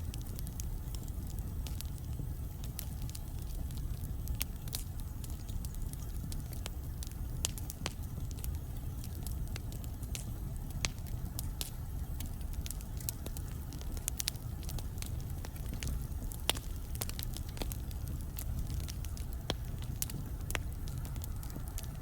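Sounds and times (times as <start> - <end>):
burning logs crackling and popping: 0.0 - 22.0
low rumble of flames: 0.0 - 22.0.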